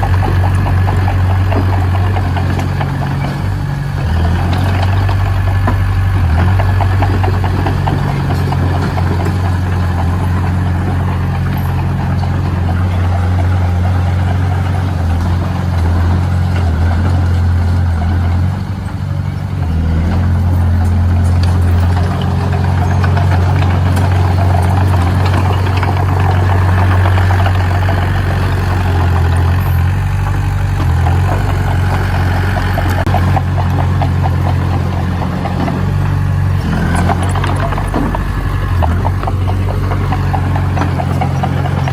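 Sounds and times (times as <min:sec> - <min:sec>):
heavy machinery diesel engine: 0:00.0 - 0:41.9.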